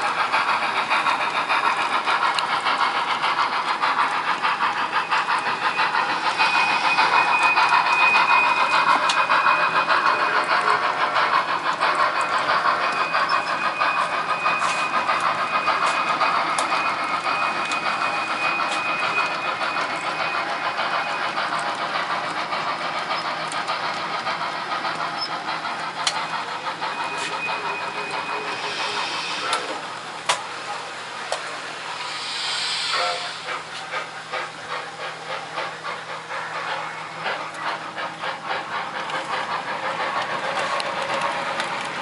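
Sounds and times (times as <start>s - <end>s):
model train running: 0.0s - 42.0s.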